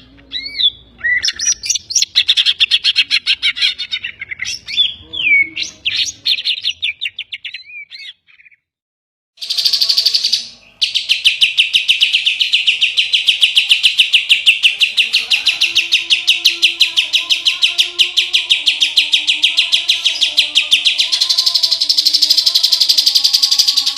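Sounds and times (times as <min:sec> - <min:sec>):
songbird singing: 0:00.0 - 0:08.7, 0:09.4 - 0:23.9.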